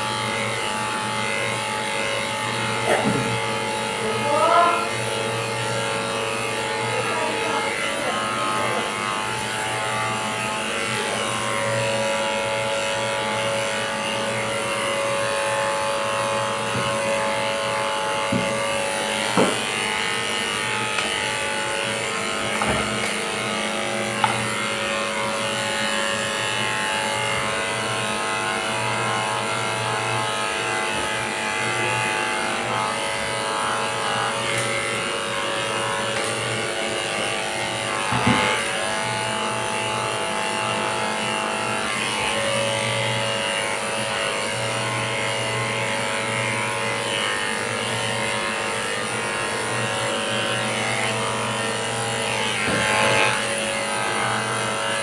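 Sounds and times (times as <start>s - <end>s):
electric clippers buzzing: 0.0s - 55.0s.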